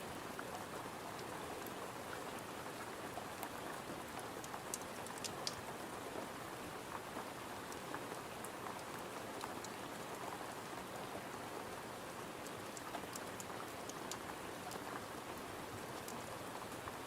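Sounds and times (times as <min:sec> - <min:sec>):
rain pattering on a window: 0:00.0 - 0:17.0.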